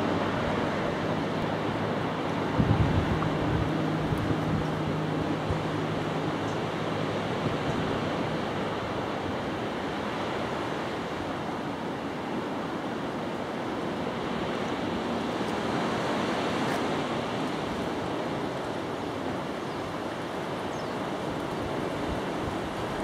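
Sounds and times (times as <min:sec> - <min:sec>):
ocean surf rushing: 0:00.0 - 0:23.0.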